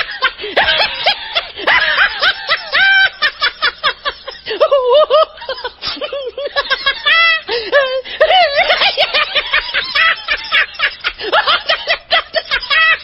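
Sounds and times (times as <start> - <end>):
cartoon laughter snickering: 0.0 - 13.0.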